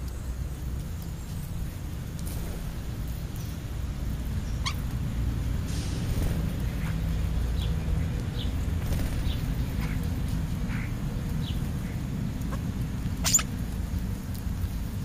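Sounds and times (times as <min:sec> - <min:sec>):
birds chirping: 0:00.0 - 0:05.3, 0:06.1 - 0:13.8.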